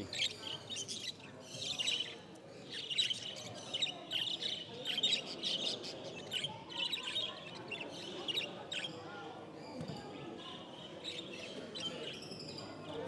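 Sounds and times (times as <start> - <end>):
low background murmur: 0.0 - 13.0.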